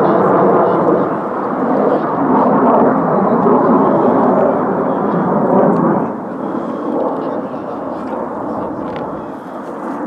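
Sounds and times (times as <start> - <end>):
jets flying overhead: 0.0 - 10.0.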